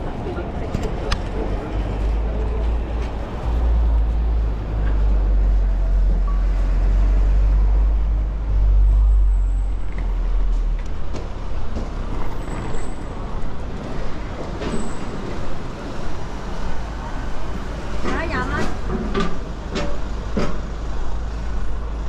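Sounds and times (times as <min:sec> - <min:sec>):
busy street noise: 0:00.0 - 0:22.0
heavy vehicle engine rumble: 0:00.0 - 0:22.0.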